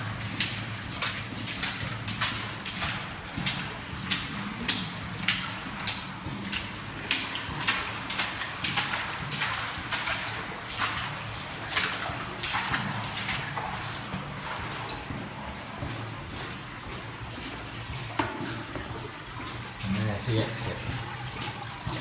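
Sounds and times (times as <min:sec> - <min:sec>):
footsteps on wet concrete: 0:00.0 - 0:22.0.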